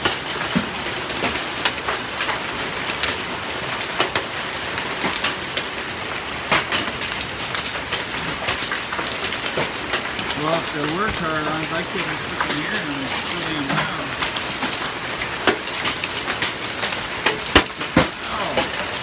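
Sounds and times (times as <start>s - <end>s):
hail clattering: 0.0s - 19.0s
hailstones cracking: 0.0s - 19.0s.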